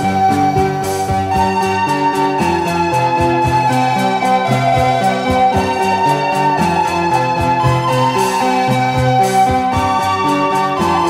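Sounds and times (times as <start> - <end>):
instrumental music with short notes: 0.0 - 11.0.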